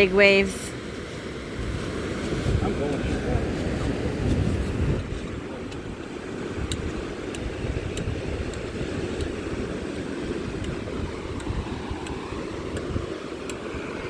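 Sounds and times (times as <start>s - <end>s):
ocean surf rushing: 0.0s - 14.0s
wind buffeting microphone: 0.0s - 14.0s.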